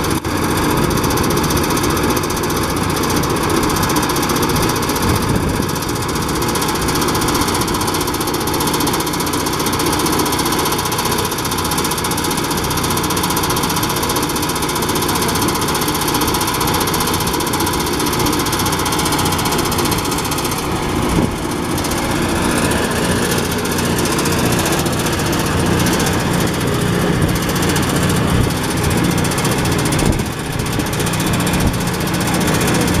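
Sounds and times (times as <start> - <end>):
rice thresher diesel engine: 0.0 - 33.0.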